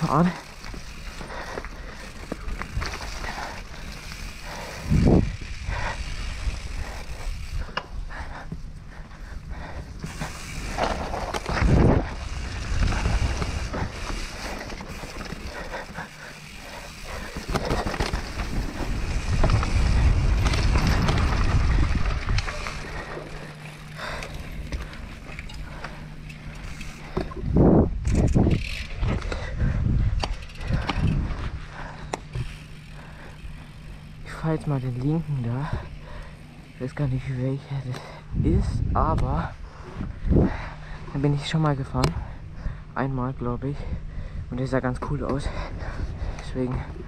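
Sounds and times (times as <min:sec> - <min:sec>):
bike tyres rumbling on dirt: 0:00.0 - 0:47.0.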